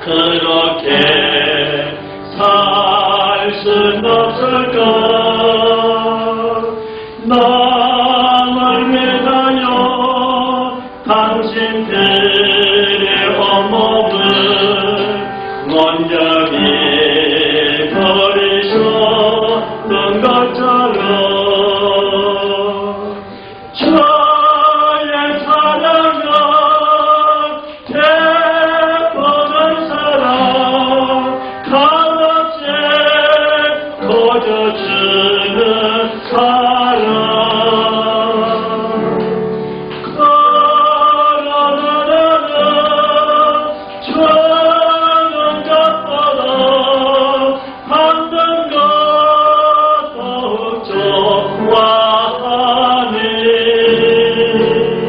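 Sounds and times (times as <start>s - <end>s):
musical accompaniment: 0.0s - 55.0s
person singing worship song: 0.0s - 55.0s.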